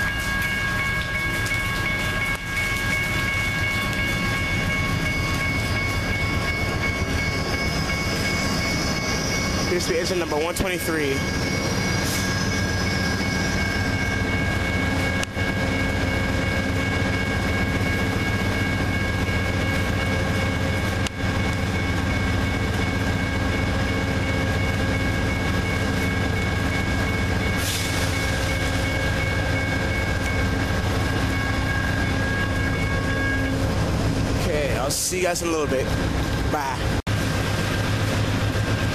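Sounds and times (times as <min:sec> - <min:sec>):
diesel locomotive engine drone: 0:00.0 - 0:38.9.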